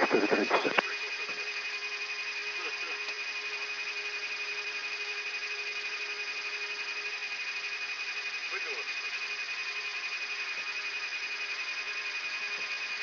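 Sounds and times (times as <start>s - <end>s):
cockpit whine and hum: 0.0s - 13.0s.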